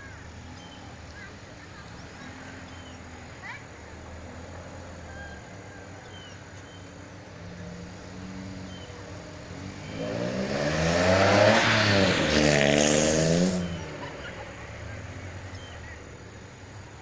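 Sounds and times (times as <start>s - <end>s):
engine passing by: 0.0s - 17.0s.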